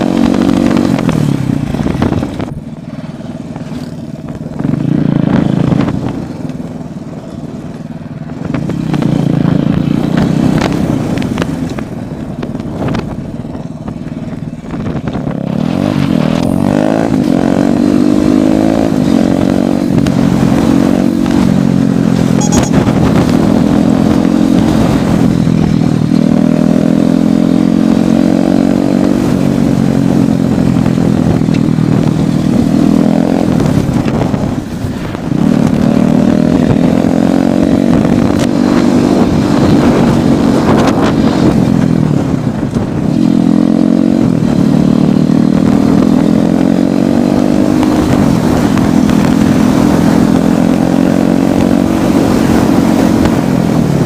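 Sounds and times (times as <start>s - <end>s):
motorcycle engine at speed: 0.0s - 54.0s
wind on microphone: 0.0s - 54.0s.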